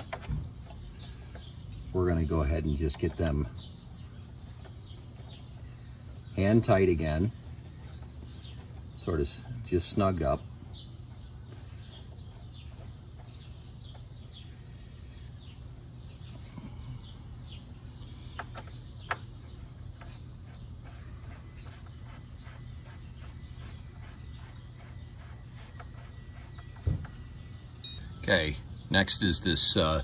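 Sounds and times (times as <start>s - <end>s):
birds chirping: 0.0s - 30.0s
steady low hum: 0.0s - 30.0s.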